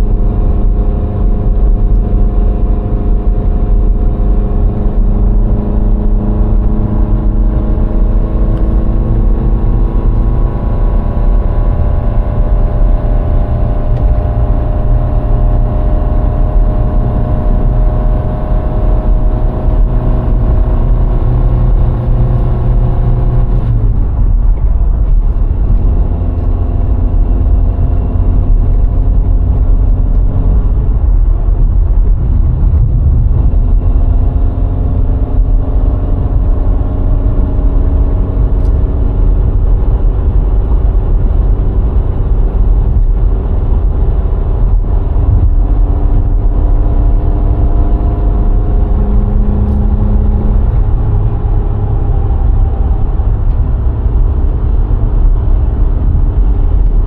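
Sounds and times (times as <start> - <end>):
car engine revving through gears: 0.0 - 57.0
road and wind noise rumble: 0.0 - 57.0.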